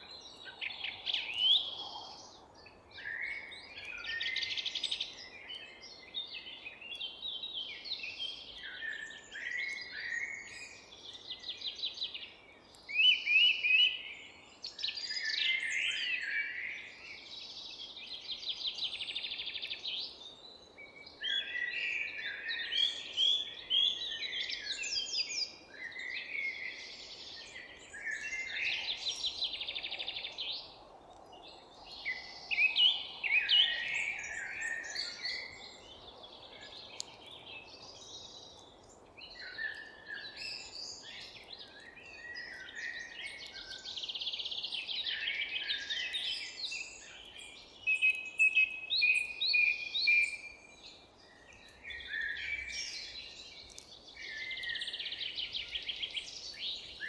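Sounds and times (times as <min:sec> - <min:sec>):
songbirds singing and calling: 0:00.0 - 0:57.0.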